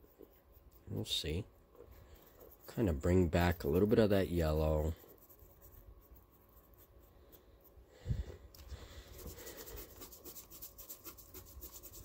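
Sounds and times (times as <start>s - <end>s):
paintbrush scratchy strokes: 0.0s - 7.8s, 8.8s - 12.0s.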